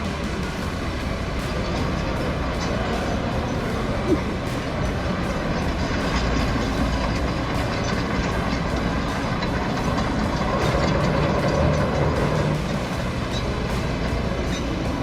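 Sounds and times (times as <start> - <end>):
heavy machine engine rumbling: 0.0 - 15.0.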